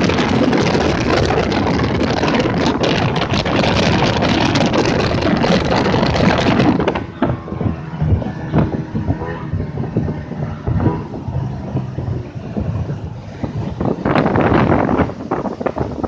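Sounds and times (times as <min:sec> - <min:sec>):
motorboat engine at speed: 0:00.0 - 0:16.0
wind and water rushing: 0:00.0 - 0:16.0.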